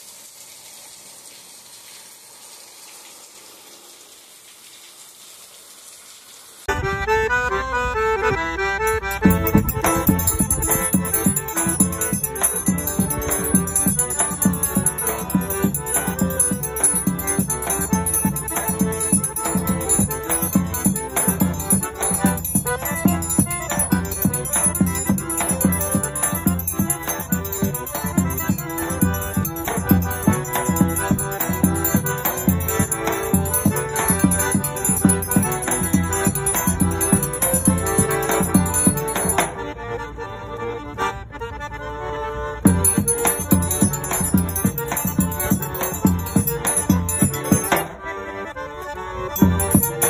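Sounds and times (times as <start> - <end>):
accordion dance music: 6.7 - 50.0.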